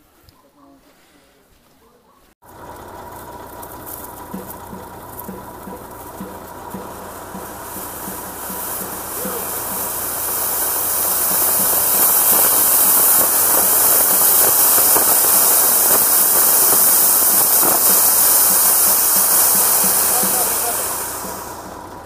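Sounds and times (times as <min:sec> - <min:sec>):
ground fountain firework hissing: 0:02.4 - 0:22.0.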